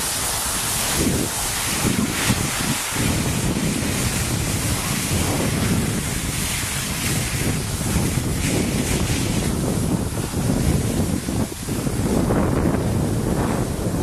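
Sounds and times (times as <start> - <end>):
skis sliding over icy snow: 0.0 - 14.0
wind buffeting microphone: 0.0 - 14.0.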